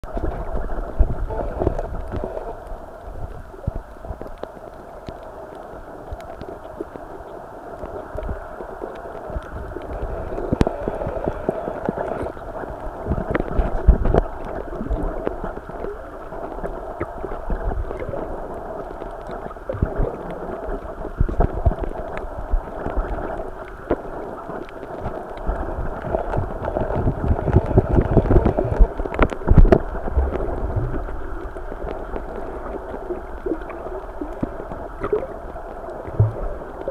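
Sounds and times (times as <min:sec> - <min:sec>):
muffled underwater hiss: 0:00.0 - 0:36.9
faint clicks: 0:00.1 - 0:36.9.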